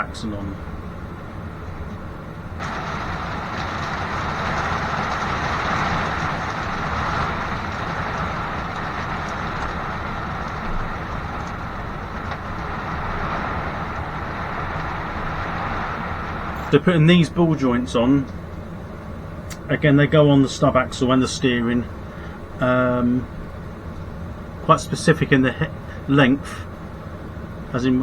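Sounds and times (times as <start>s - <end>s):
heavy rain on a roof: 0.6s - 28.0s.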